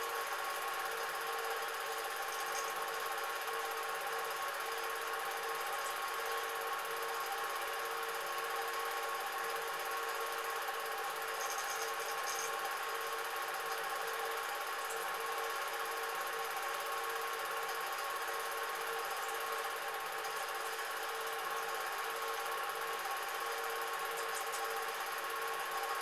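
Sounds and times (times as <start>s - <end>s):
film projector whirring: 0.0s - 26.0s.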